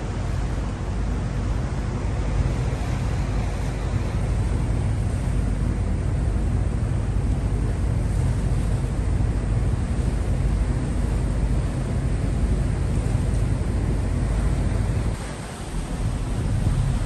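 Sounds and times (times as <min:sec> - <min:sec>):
ferry engine droning: 0:00.0 - 0:17.0
wind noise on microphone: 0:00.0 - 0:17.0.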